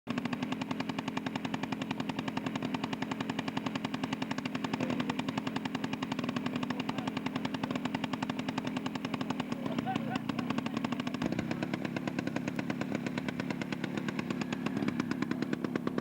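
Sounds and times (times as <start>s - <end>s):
model aircraft engine idling: 0.1s - 16.0s.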